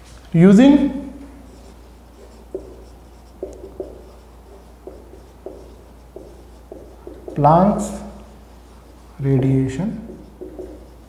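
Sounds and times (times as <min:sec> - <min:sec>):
marker writing on whiteboard: 0:01.3 - 0:11.0.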